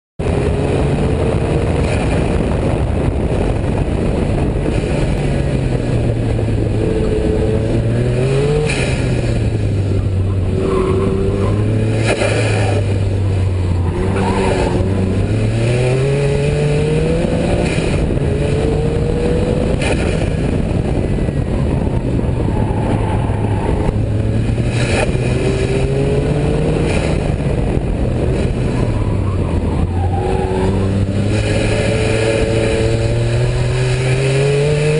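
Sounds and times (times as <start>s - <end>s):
sports car engine revving: 0.2s - 34.9s
wind and road noise: 0.2s - 34.9s.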